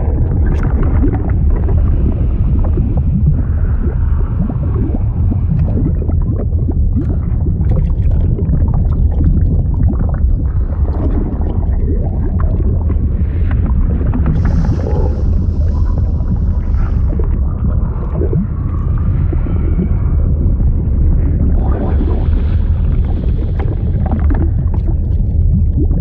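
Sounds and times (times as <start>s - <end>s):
deep steady rumble: 0.0s - 26.0s
water bubbling and gurgling: 0.0s - 26.0s.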